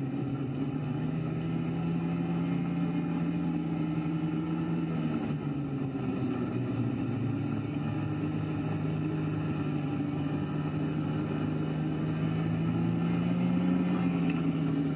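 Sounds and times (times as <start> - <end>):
snowmobile engine running: 0.0 - 14.9.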